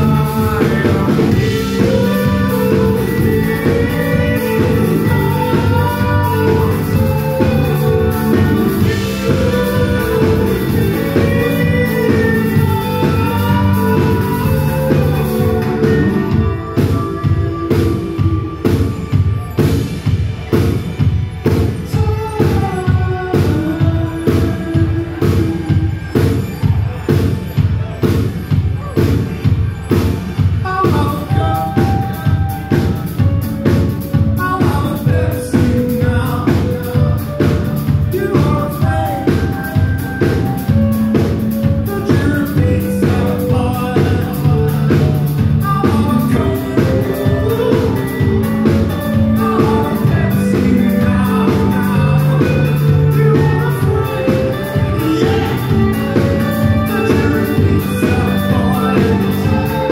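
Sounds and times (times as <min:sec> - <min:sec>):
man singing: 0:00.0 - 0:19.8, 0:21.6 - 0:27.9, 0:29.9 - 0:59.9
drum kit beat: 0:00.0 - 0:59.9
electric guitar: 0:00.0 - 0:59.9.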